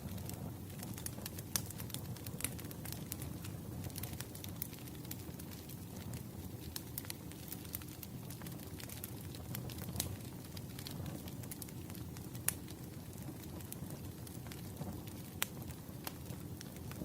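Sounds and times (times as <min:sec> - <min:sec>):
firewood crackling and popping: 0:00.0 - 0:17.0
low fire rumble: 0:00.0 - 0:17.0.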